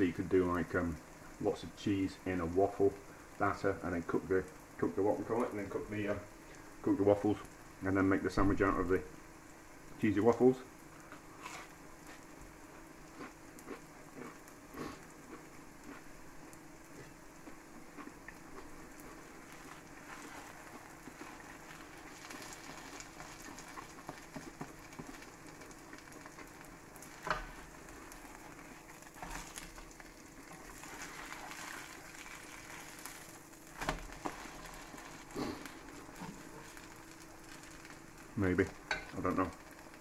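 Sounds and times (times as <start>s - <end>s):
cheese frying in a pan: 0.0s - 40.0s.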